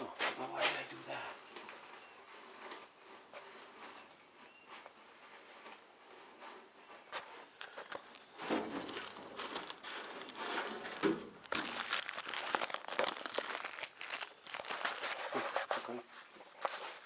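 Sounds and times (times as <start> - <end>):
rustling and crinkling: 0.0 - 17.0.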